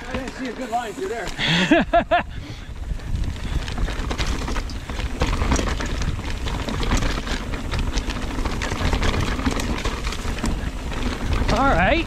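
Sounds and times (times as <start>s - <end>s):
bike clicking and rattling: 0.0s - 12.0s.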